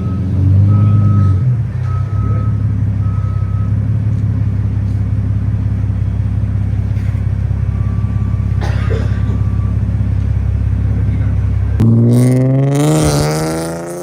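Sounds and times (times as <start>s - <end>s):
car engine idling: 0.0s - 12.2s.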